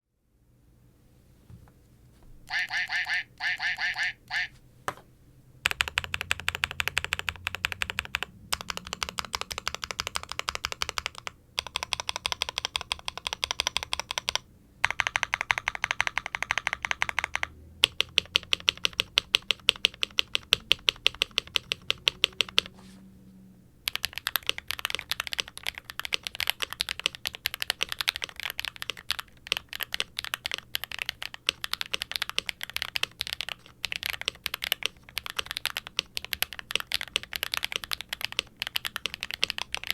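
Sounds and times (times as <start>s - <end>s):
typing on mechanical keyboard: 5.6s - 22.7s, 23.8s - 39.9s.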